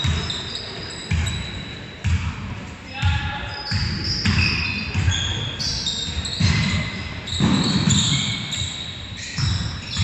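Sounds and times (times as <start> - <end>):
sneaker squeaks on floor: 0.0 - 10.0.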